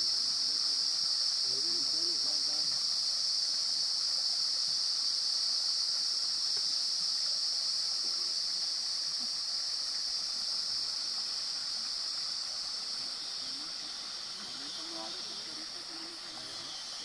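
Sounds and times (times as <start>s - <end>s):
insects droning: 0.0s - 17.0s
stream rippling over stones: 0.0s - 17.0s.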